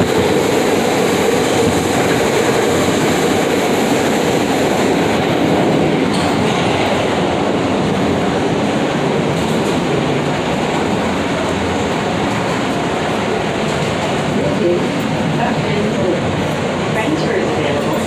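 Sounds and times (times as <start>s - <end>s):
subway train rumbling on rails: 0.0s - 18.0s.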